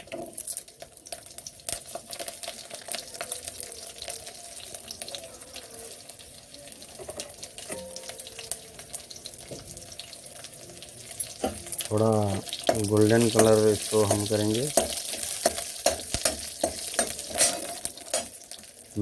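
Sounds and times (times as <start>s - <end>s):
garlic sizzling in hot oil: 0.0s - 19.0s
mustard seeds crackling: 0.2s - 19.0s.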